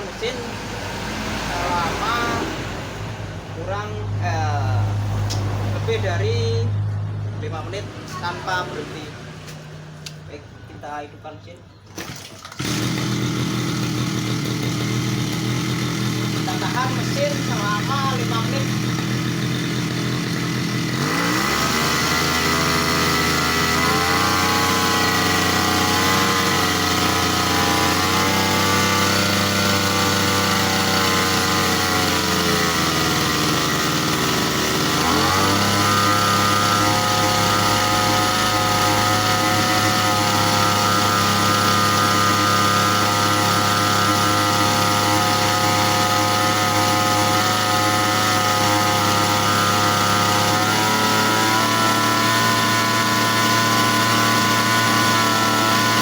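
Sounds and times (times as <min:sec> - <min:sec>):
brush cutter engine running: 0:00.0 - 0:06.6, 0:11.9 - 0:56.0.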